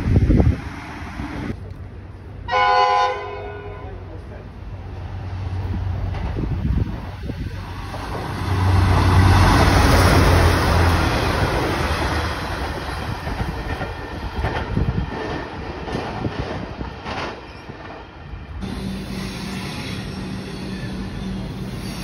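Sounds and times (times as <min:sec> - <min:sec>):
diesel railcar engine hum: 0:00.0 - 0:22.0
train wheel noise: 0:04.1 - 0:22.0.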